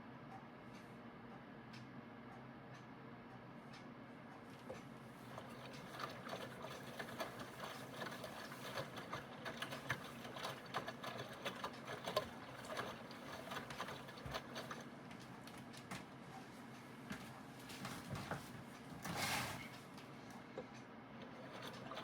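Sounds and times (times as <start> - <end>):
washing machine motor hum: 4.3 - 22.0.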